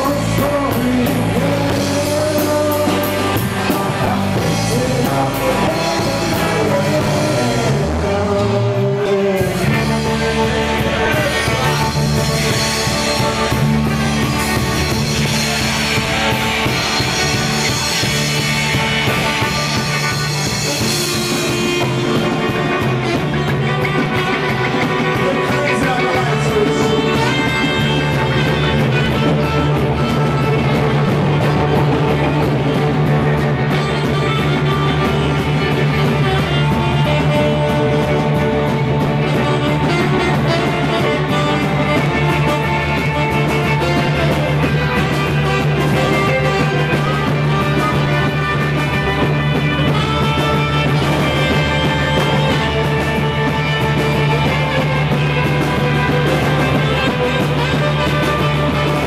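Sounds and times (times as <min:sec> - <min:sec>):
electric guitar: 0:00.0 - 0:59.0
live rock band playing: 0:00.0 - 0:59.0.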